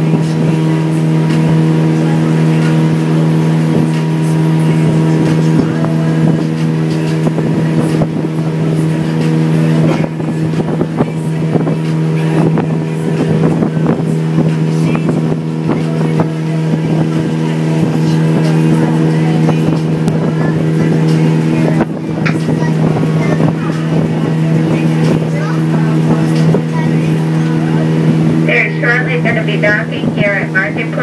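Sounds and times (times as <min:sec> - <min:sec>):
ferry engine humming: 0:00.0 - 0:31.0.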